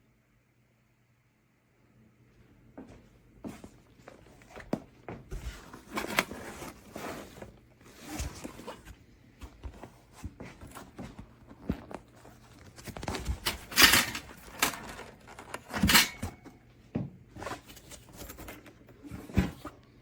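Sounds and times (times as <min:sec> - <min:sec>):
handling noises: 0:02.8 - 0:20.0.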